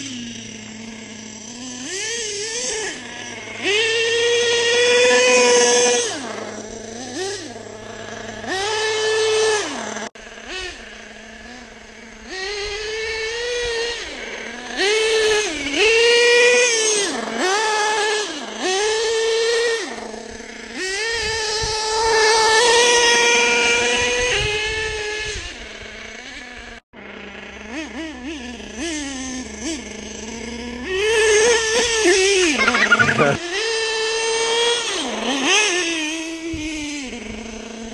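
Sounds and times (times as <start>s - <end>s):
small engine revving to high whine: 0.0s - 37.9s.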